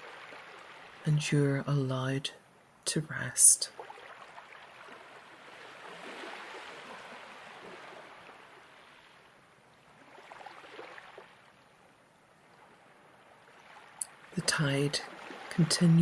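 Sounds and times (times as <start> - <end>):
ocean waves washing onto shore: 0.0 - 1.6, 3.7 - 16.0.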